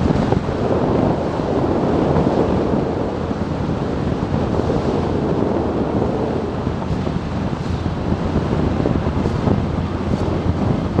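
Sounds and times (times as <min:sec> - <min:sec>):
road noise: 0:00.0 - 0:11.0
wind on microphone: 0:00.0 - 0:11.0.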